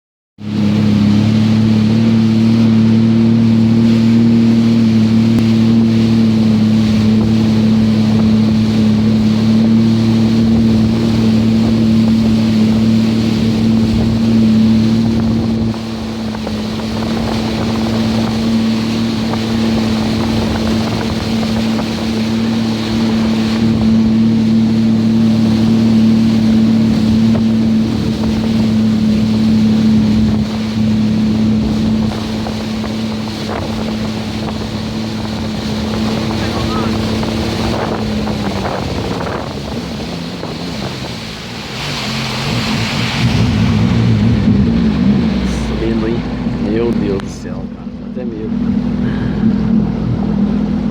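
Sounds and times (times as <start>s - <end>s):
jet ski engine drone: 0.4s - 50.9s
water rushing: 0.4s - 50.9s
wind on microphone: 0.4s - 50.9s.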